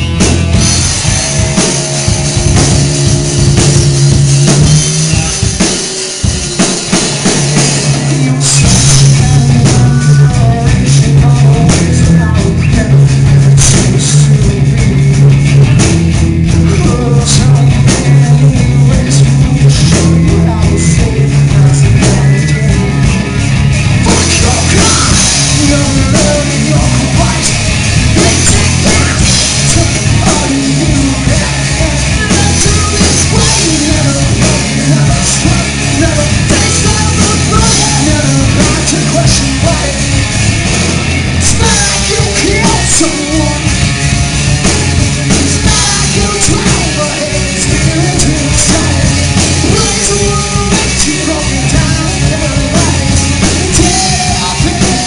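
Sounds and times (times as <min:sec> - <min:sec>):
live rock band playing: 0:00.0 - 0:55.0
man singing: 0:05.0 - 0:23.4, 0:24.0 - 0:40.4, 0:41.0 - 0:44.0, 0:45.2 - 0:55.0.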